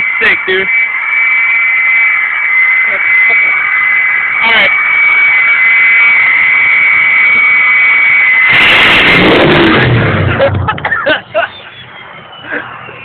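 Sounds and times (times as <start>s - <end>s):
turbocharger whistle: 0.0s - 10.4s, 11.4s - 13.0s
diesel engine rushing: 2.0s - 13.0s.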